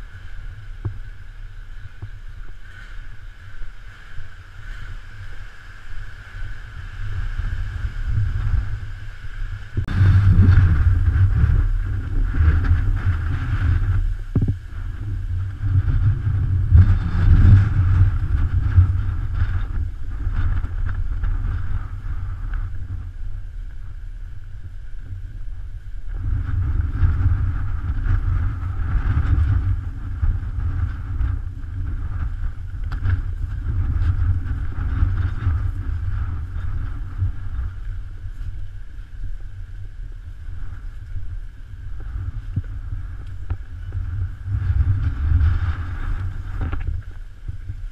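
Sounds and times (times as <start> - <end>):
strong wind buffeting microphone: 0.0 - 47.9.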